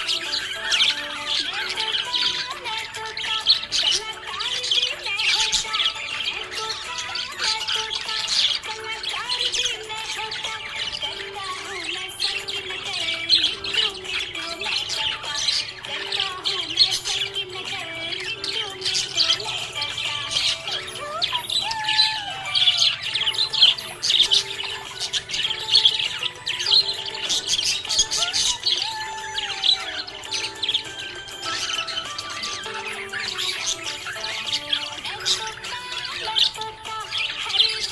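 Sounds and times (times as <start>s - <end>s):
budgerigar chirping: 0.0s - 37.9s.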